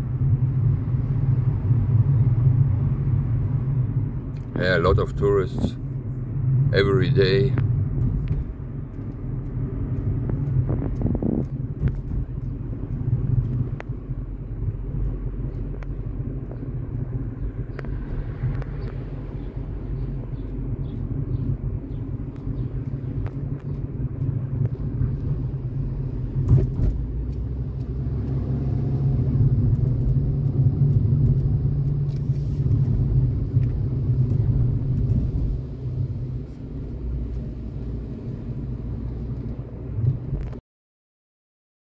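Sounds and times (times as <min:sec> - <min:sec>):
car engine and tyre rumble: 0:00.0 - 0:40.6.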